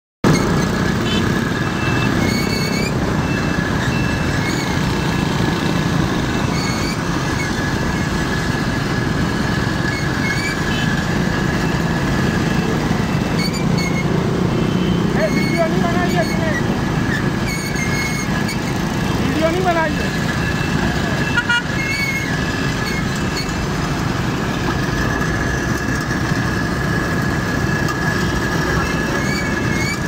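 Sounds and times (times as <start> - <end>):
motorbike engine rumble: 0.2 - 30.0
road noise: 0.2 - 30.0.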